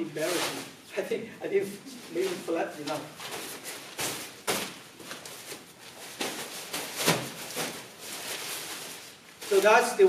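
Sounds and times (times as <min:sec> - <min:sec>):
nylon fabric rustling: 0:00.0 - 0:00.9, 0:01.6 - 0:10.0.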